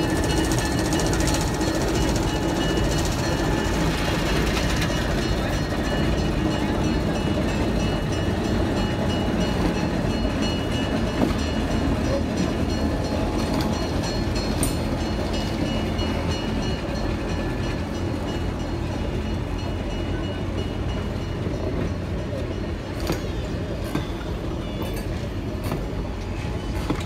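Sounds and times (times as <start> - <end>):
diesel locomotive running: 0.0 - 27.0
wheels clicking over rail joints: 0.0 - 27.0.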